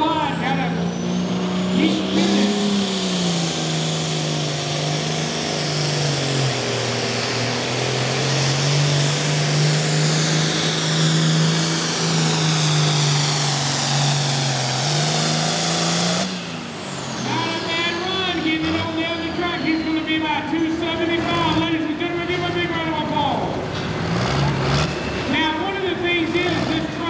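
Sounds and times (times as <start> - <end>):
diesel tractor engine under load: 0.0 - 27.0
high turbo whine: 0.0 - 27.0.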